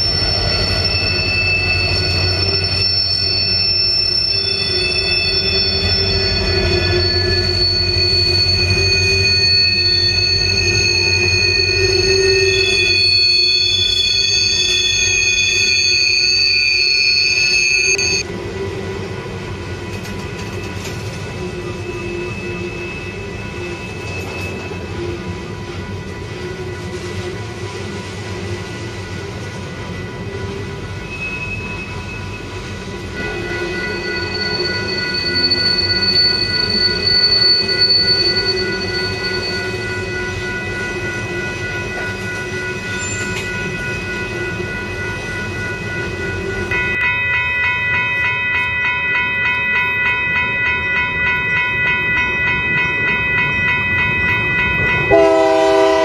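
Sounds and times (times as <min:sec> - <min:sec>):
train wheel squeal: 0:00.0 - 0:56.0.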